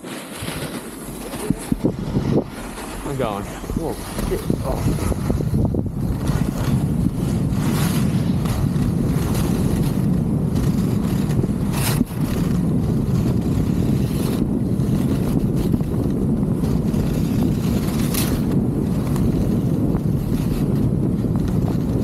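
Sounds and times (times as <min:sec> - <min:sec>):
ski edge scraping: 0:00.0 - 0:22.0
skis running over snow: 0:00.0 - 0:22.0
wind rushing over microphone: 0:00.0 - 0:22.0.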